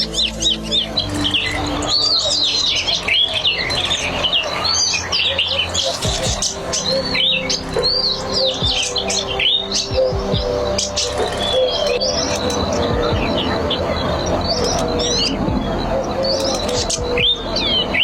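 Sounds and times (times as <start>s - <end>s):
bird rapid high chirps: 0.0s - 18.0s.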